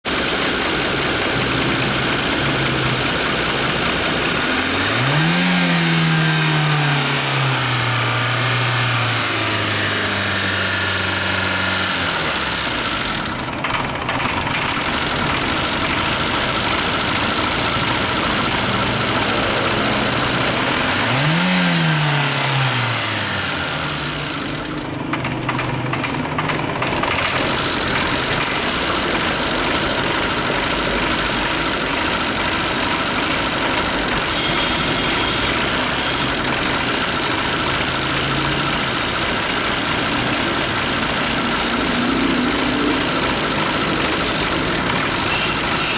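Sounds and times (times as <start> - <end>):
car engine idling with clatter: 0.0 - 45.9
car engine revving: 0.1 - 45.9.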